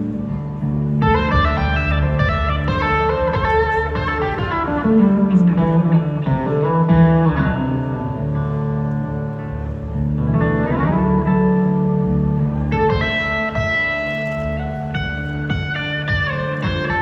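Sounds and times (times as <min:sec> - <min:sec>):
live band music: 0:00.0 - 0:08.8, 0:10.0 - 0:17.0
electric guitar lead line: 0:00.0 - 0:17.0.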